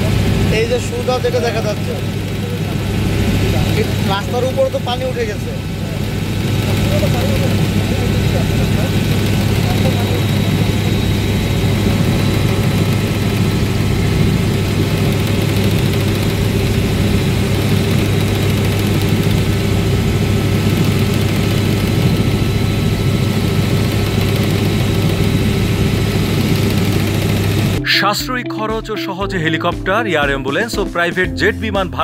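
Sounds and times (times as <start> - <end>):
faint high whine: 0.0 - 27.8
helicopter cabin drone: 0.0 - 27.9.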